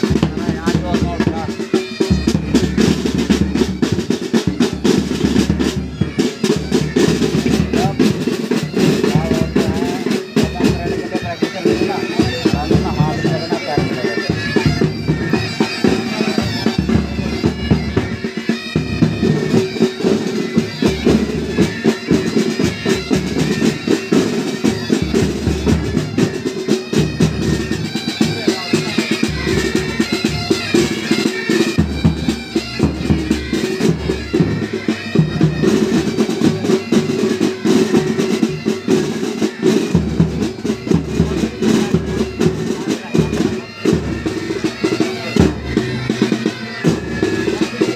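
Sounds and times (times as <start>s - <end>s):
bagpipes drone and melody: 0.0s - 47.9s
side drum rhythm: 0.0s - 47.9s.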